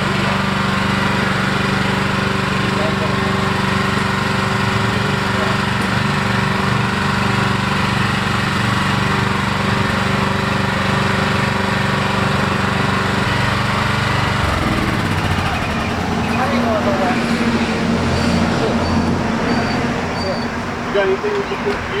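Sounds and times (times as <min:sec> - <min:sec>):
small gasoline engine running: 0:00.0 - 0:22.0.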